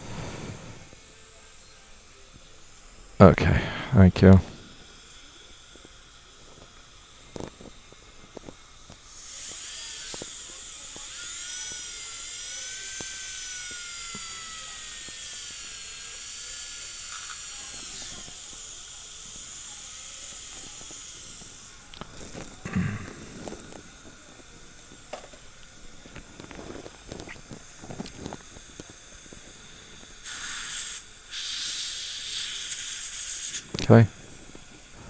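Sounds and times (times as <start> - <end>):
dental drill whining: 0.0 - 35.0.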